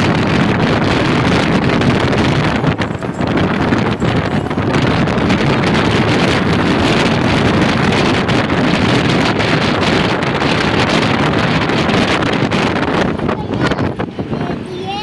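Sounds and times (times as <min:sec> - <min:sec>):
car road and engine noise: 0:00.0 - 0:15.0
wind rushing over microphone: 0:00.0 - 0:15.0.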